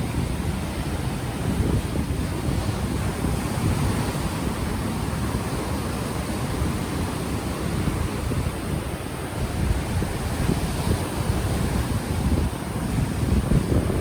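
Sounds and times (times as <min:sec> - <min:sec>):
ocean waves washing on shore: 0:00.0 - 0:14.0
wind buffeting microphone: 0:00.0 - 0:14.0.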